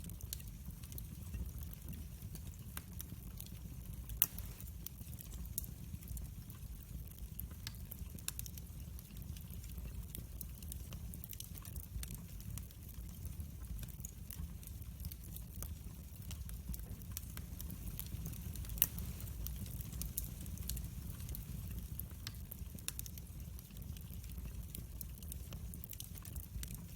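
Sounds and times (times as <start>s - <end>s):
fire crackles and pops: 0.0s - 26.9s
low rumble of flames: 0.0s - 26.9s.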